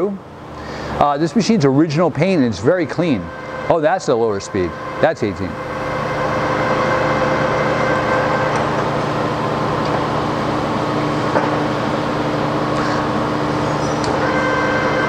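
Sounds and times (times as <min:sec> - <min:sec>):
lathe running with machine hum: 0:00.0 - 0:15.0.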